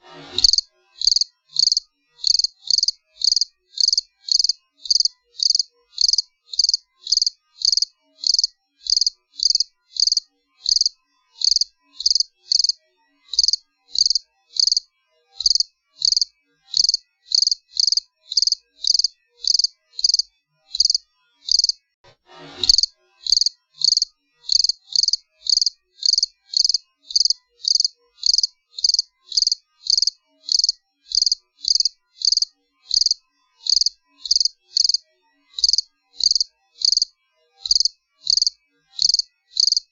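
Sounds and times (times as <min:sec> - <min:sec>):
cricket chirping: 0:00.4 - 0:14.8, 0:15.4 - 0:21.8, 0:22.7 - 0:35.0, 0:35.6 - 0:39.9.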